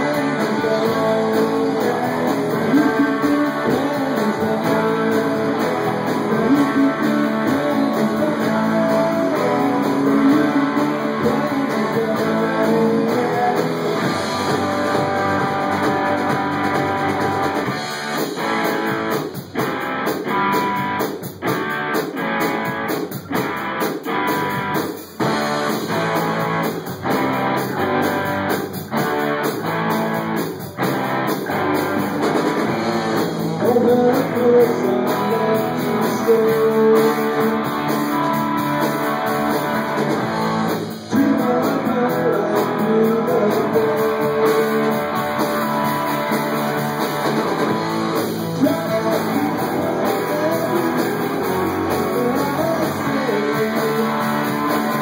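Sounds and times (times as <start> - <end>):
held lead guitar notes: 0.0 - 55.0
rock band playing: 0.0 - 55.0.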